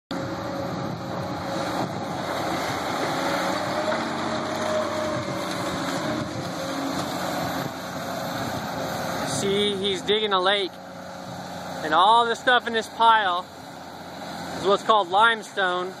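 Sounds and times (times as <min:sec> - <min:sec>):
diesel engine running under load: 0:00.1 - 0:16.0.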